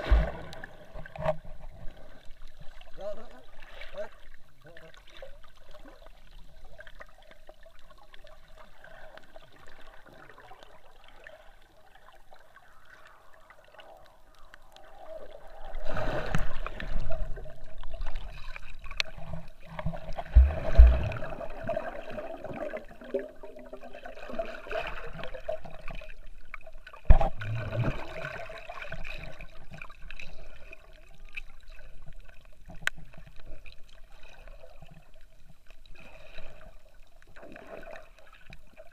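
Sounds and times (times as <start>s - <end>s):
underwater gurgling: 0.0s - 38.9s
underwater swishing: 0.0s - 38.9s.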